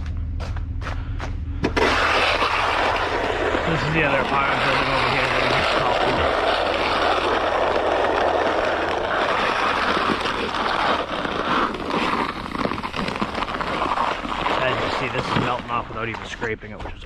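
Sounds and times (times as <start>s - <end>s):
truck engine hum: 0.0s - 17.0s
loud rushing noise with crackles: 1.7s - 16.4s.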